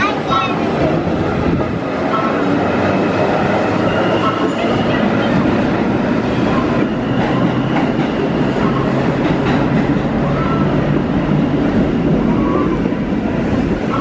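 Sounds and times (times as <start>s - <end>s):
tram motors: 0.0s - 14.0s
wheels running on rail: 0.0s - 14.0s.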